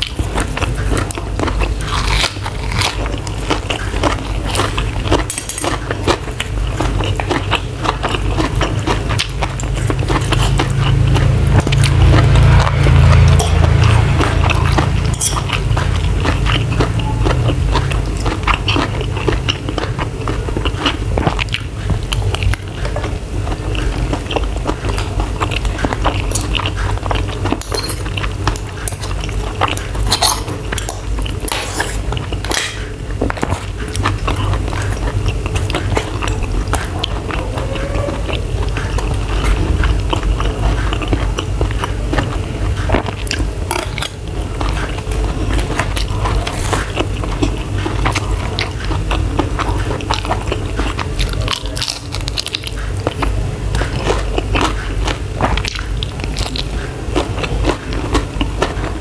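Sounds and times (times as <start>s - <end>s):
chewing and biting food: 0.0s - 59.0s.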